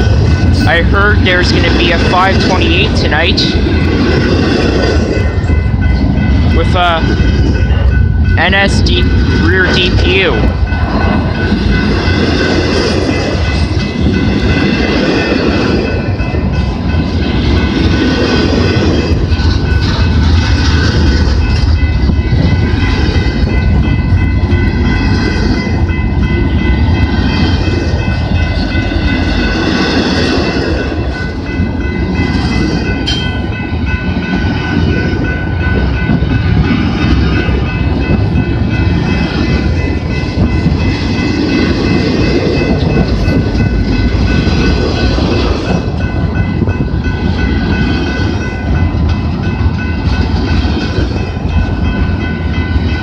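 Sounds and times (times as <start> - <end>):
freight train wheels rumbling: 0.0 - 53.0
clickety-clack of rail joints: 8.7 - 53.0.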